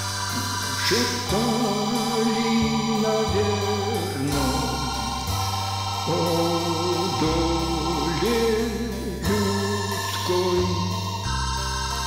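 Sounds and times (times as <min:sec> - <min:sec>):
slow background music: 0:00.0 - 0:12.0.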